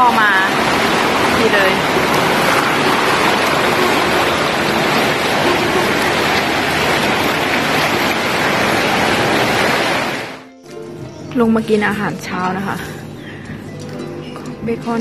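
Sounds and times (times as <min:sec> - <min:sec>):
whirlpool water jets bubbling: 0:00.0 - 0:15.0.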